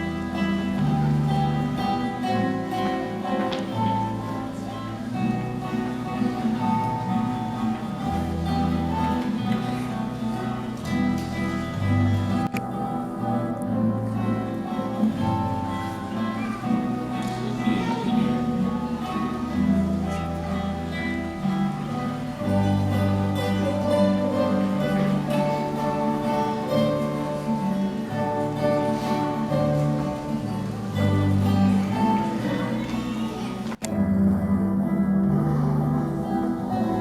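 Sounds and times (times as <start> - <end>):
guitars playing instrumental: 0.0 - 37.0.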